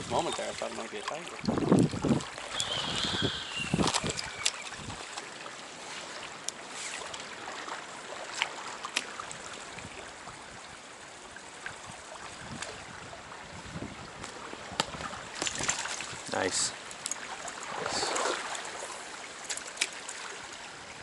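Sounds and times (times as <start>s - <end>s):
stream water running: 0.0s - 21.0s.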